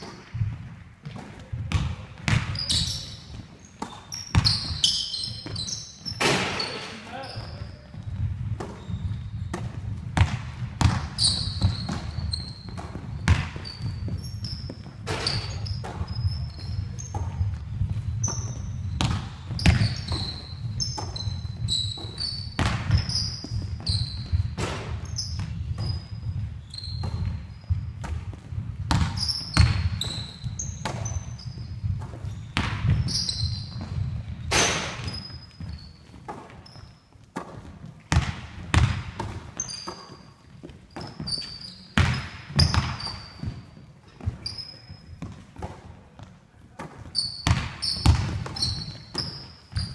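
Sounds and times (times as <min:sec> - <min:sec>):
basketball bouncing on wooden floor: 0:00.0 - 0:06.7, 0:07.4 - 0:49.9
shoes squeaking on floor: 0:00.0 - 0:49.9.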